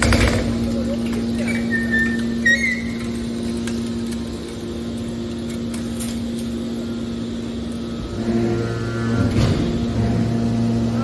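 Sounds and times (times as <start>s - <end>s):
motor and hydraulic pump humming: 0.0s - 11.0s.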